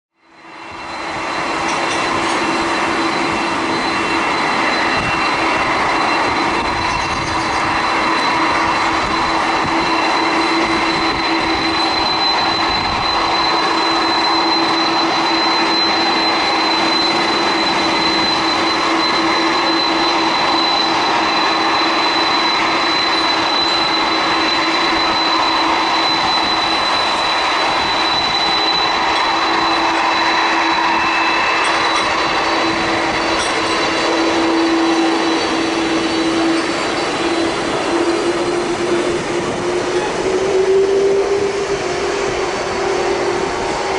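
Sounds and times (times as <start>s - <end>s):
high engine whine: 0.1s - 43.9s
jet engines roaring: 0.2s - 43.9s.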